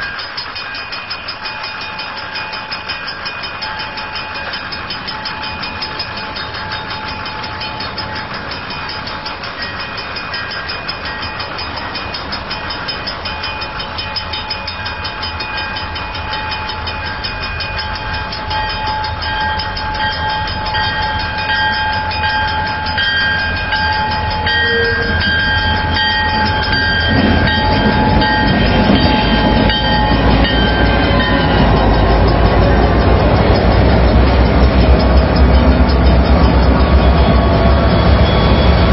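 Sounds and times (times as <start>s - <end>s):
diesel locomotive rumble: 0.0s - 38.9s
level crossing bell ringing: 0.0s - 38.9s.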